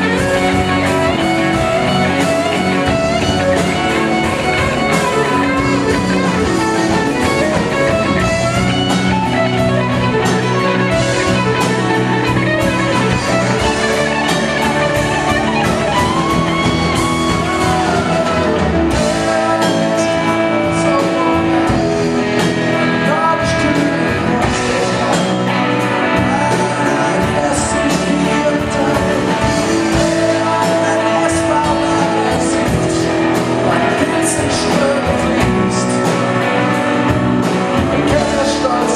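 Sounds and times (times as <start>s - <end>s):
man singing: 0.0s - 38.9s
rock band playing live: 0.0s - 38.9s.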